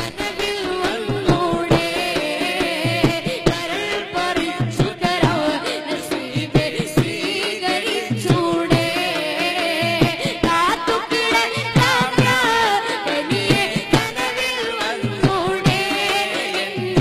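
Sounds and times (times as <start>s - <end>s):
boy singing into a microphone: 0.0s - 17.0s
steady drum beat: 0.0s - 17.0s.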